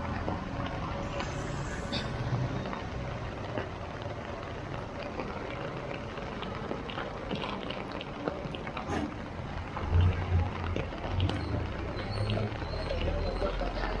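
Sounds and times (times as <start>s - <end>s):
heavy rain spattering: 0.0s - 14.0s
low traffic rumble: 0.0s - 14.0s.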